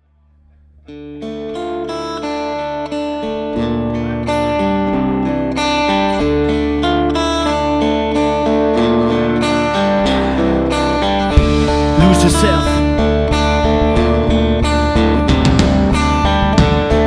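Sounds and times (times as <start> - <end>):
bluesy electric guitars: 0.9 - 17.0.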